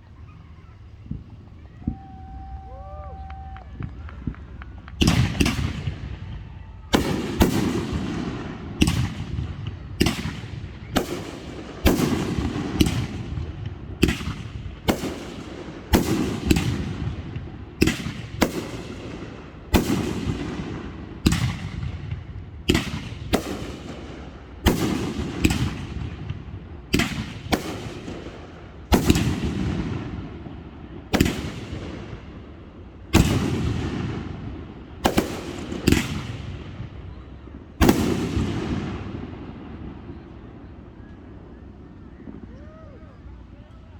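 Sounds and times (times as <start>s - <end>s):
rumble and crackle: 0.0s - 43.9s.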